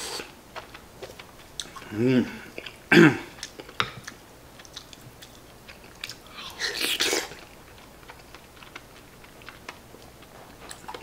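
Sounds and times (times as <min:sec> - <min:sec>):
man chewing: 0:00.0 - 0:11.0.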